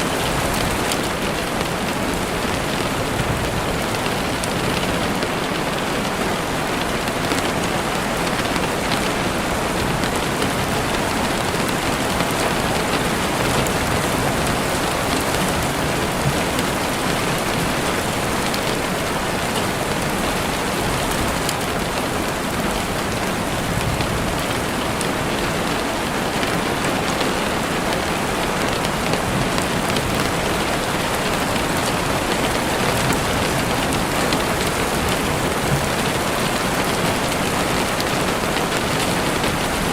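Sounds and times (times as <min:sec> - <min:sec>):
heavy rain against window: 0:00.0 - 0:39.9.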